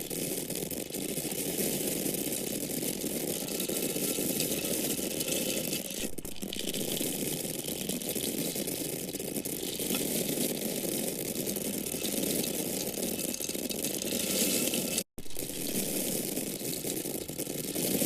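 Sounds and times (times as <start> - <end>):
dry grains rattling: 0.0 - 18.0.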